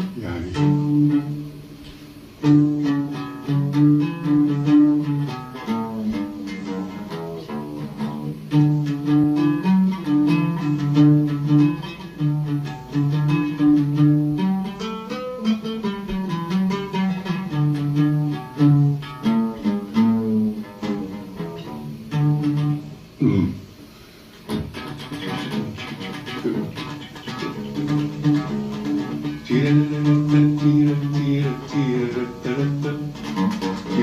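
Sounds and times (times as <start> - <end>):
oud playing: 0.0 - 34.0.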